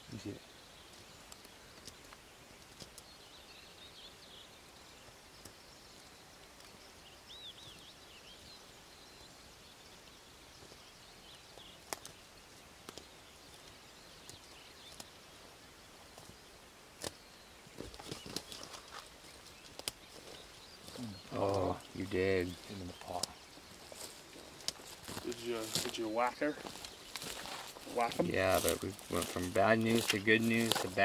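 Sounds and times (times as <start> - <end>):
faint distant birdsong: 0.0 - 31.0.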